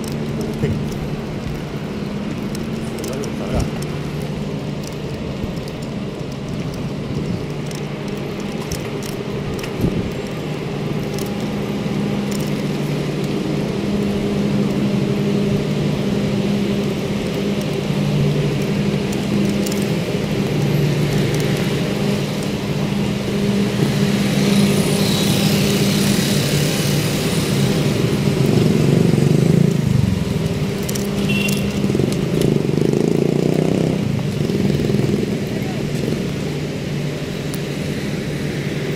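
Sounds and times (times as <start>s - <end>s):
traffic engine hum: 0.0s - 38.9s
vehicles passing: 0.0s - 38.9s.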